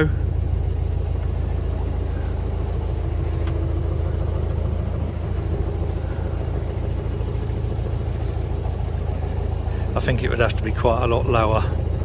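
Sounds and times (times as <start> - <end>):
boat diesel engine rumbling: 0.0 - 12.0.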